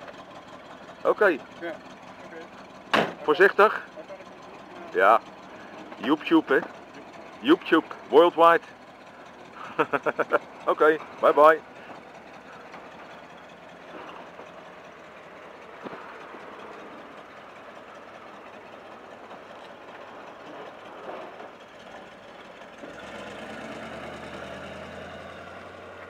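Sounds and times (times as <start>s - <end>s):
van engine idling: 0.0s - 26.0s.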